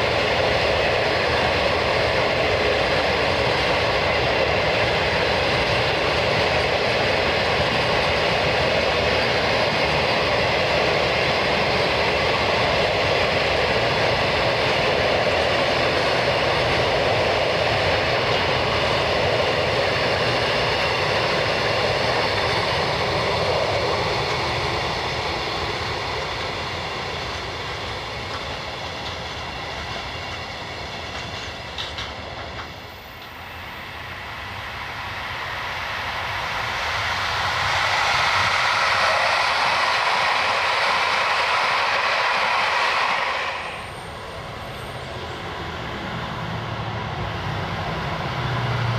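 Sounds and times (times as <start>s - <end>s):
train running past: 0.0s - 48.9s.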